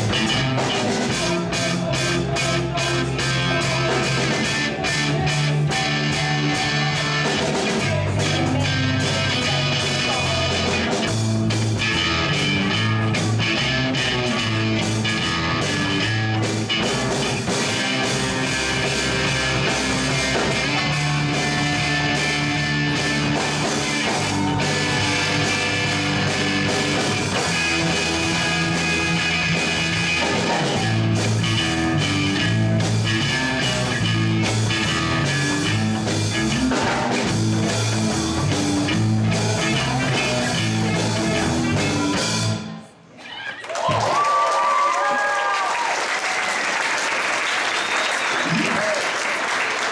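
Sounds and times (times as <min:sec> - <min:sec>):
drum kit: 0:00.0 - 0:42.8
electric guitar: 0:00.0 - 0:42.8
electric bass: 0:00.0 - 0:42.9.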